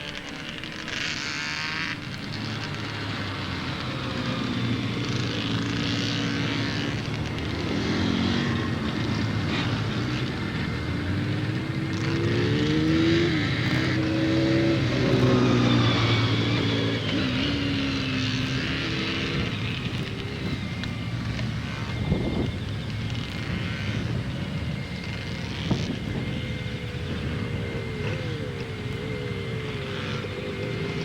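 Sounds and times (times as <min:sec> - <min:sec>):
motorcycle engines revving: 0:00.0 - 0:31.0.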